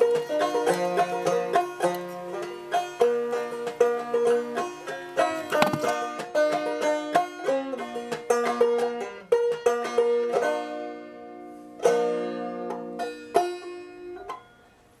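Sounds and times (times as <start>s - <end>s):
plucked string instrument music: 0.0s - 15.0s.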